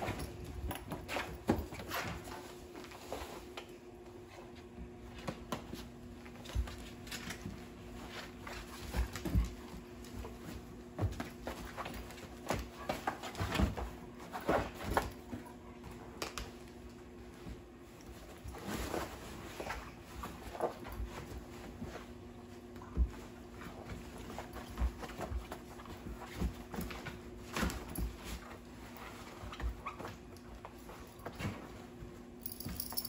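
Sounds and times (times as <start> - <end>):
puppy paws scuffing: 0.0 - 33.0.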